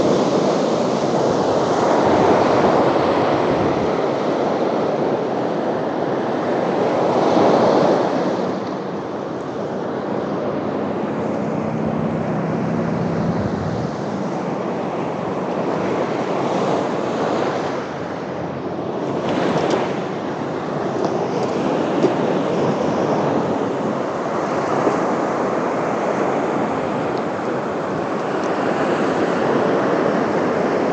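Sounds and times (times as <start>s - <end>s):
ocean waves on beach: 0.0s - 30.9s.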